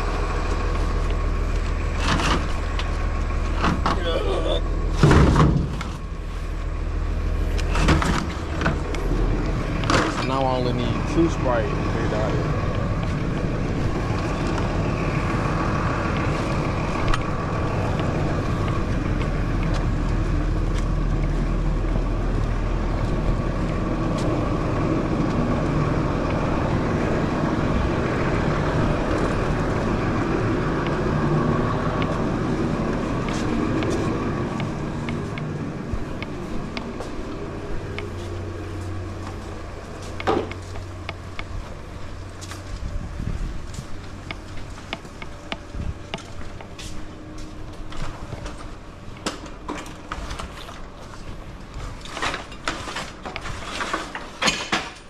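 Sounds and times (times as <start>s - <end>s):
low hum: 0.0s - 54.1s
vehicle engine rumbling: 0.0s - 55.0s.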